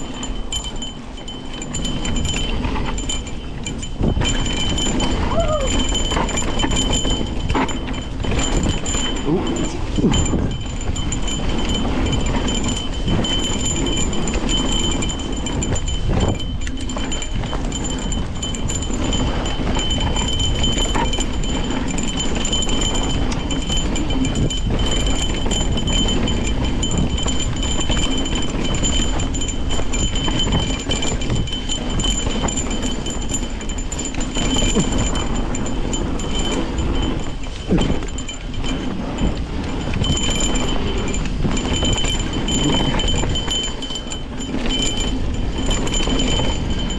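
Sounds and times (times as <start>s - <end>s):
bike tyres rattling over dirt: 0.0s - 46.9s
wind noise: 0.0s - 46.9s.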